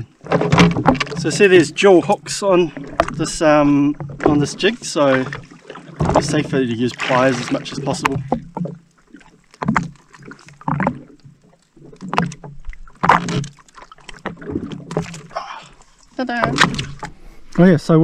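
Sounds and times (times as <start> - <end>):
short knocks and splashes: 0.0 - 17.6
water lapping against hull: 0.0 - 17.8.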